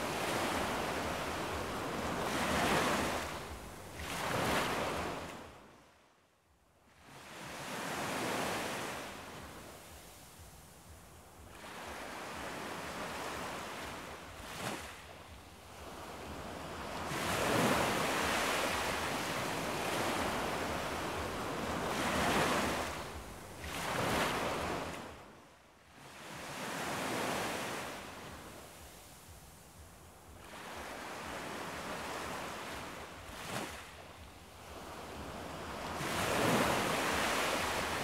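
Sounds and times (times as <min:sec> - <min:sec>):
ocean waves washing in: 0:00.0 - 0:05.7, 0:07.1 - 0:25.3, 0:26.1 - 0:38.0.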